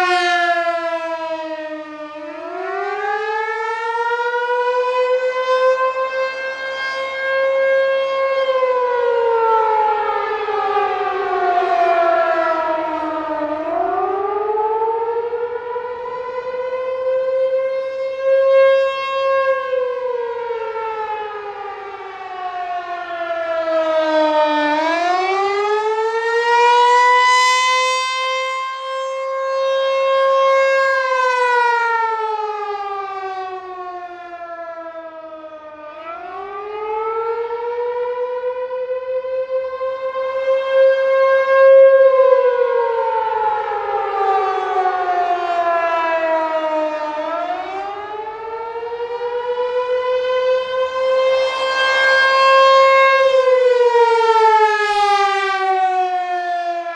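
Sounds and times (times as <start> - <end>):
rotating warning siren wailing: 0.0 - 56.9.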